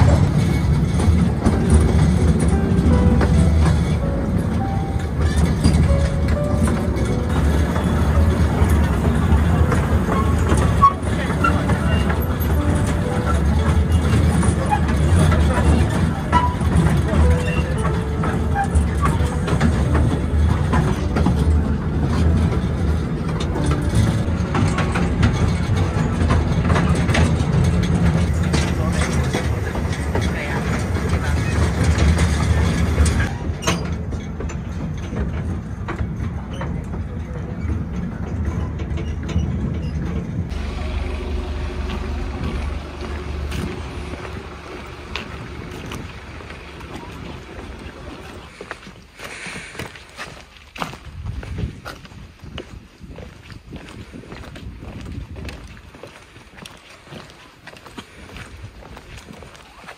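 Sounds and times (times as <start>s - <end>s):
vehicle rumble in motion: 0.0s - 52.9s.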